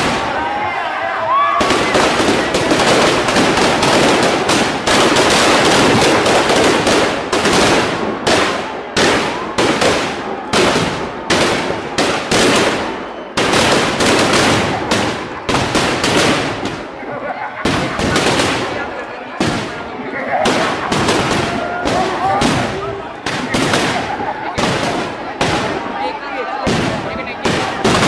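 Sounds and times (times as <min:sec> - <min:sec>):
firecrackers crackling: 0:00.0 - 0:28.0.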